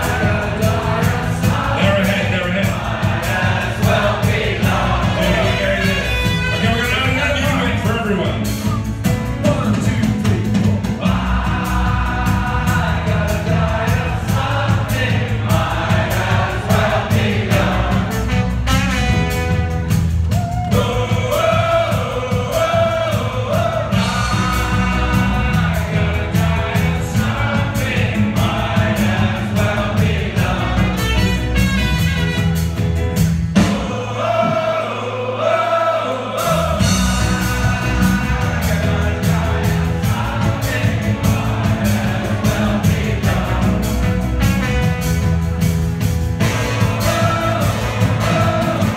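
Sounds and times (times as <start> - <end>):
live band playing: 0.0 - 34.8, 36.4 - 48.9.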